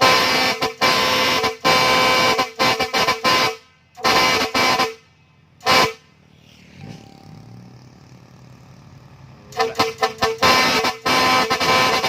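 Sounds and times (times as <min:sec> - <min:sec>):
truck air horn blasts: 0:00.0 - 0:07.8, 0:09.4 - 0:12.0.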